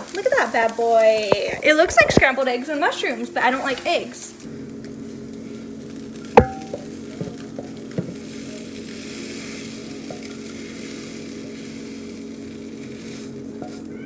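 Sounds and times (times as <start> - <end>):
food sizzling in a frying pan: 0.0 - 3.1, 4.5 - 14.0.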